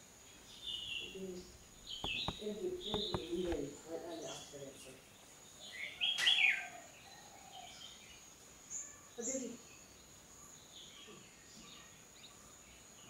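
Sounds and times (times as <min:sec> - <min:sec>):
birds chirping: 0:00.2 - 0:13.0.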